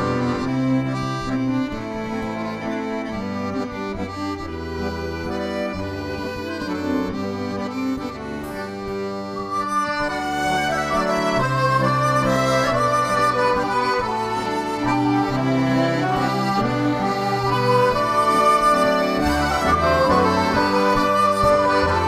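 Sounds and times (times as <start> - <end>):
folk band playing a waltz: 0.0 - 22.0.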